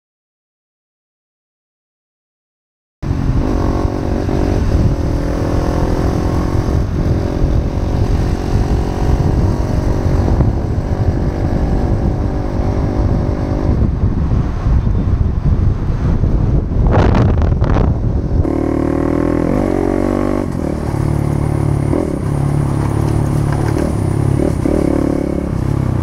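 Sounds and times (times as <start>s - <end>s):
motorcycle engine running: 3.0s - 26.0s
wind rumble on microphone: 3.0s - 26.0s.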